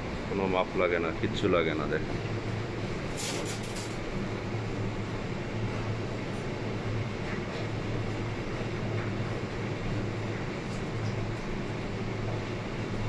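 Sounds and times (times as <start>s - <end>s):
kitchen ventilation rushing hum: 0.0s - 13.0s.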